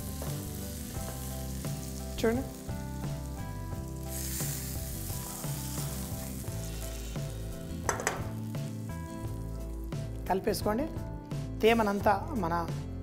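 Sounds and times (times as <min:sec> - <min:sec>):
hot oil sizzling in a pan: 0:00.0 - 0:11.1
soft background music: 0:00.0 - 0:13.0.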